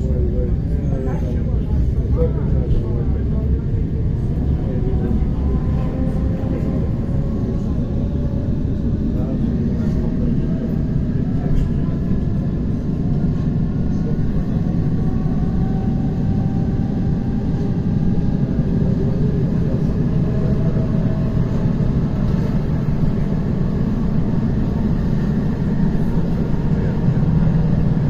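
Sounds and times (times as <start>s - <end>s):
faint train whine: 0.0s - 28.0s
train wheels rumbling on track: 0.0s - 28.0s.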